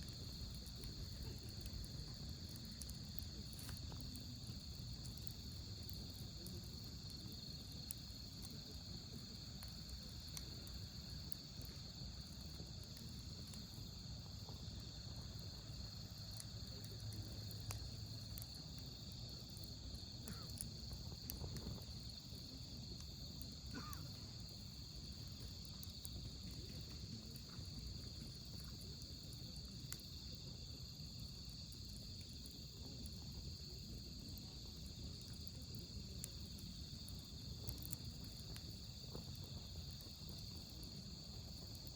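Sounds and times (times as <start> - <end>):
night insects trilling: 0.0 - 41.9
wood fire crackling: 0.0 - 41.9.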